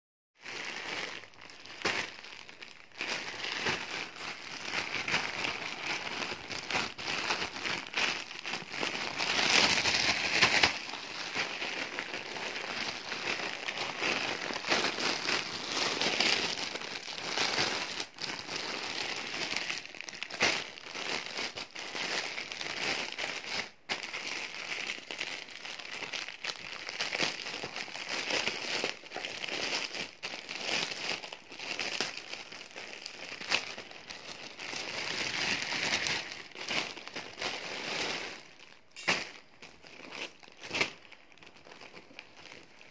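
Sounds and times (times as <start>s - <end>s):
plastic bag crinkling: 0.4s - 42.9s.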